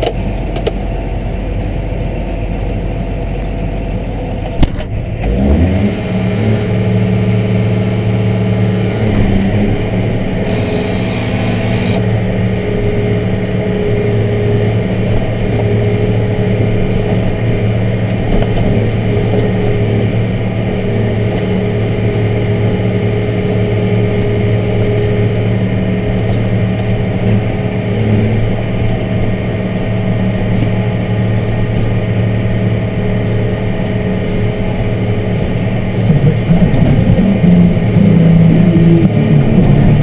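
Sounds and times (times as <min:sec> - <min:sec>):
tractor engine revving: 0:04.9 - 0:40.0.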